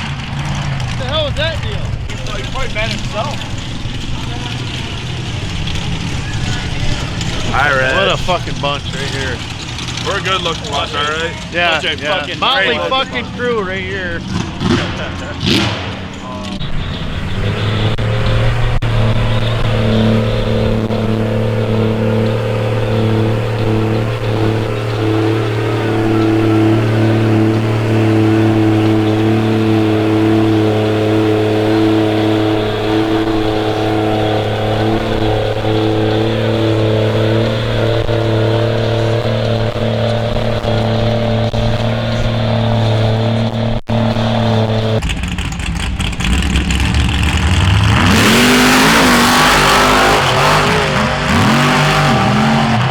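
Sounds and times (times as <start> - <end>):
off-road vehicle engine revving high: 0.0 - 52.9.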